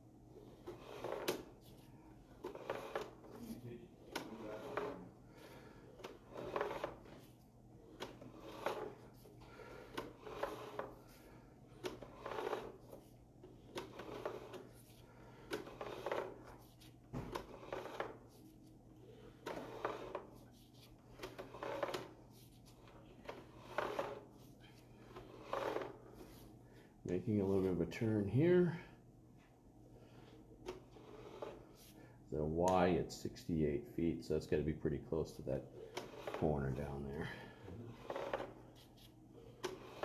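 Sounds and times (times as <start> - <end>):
cable scraping rustle: 0.4 - 26.6, 30.0 - 32.0, 35.3 - 40.0.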